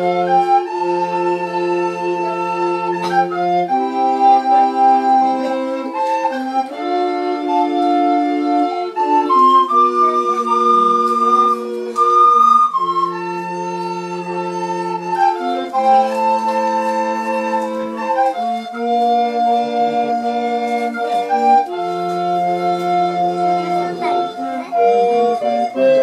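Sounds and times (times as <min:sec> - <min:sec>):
recorder ensemble playing: 0:00.0 - 0:26.0.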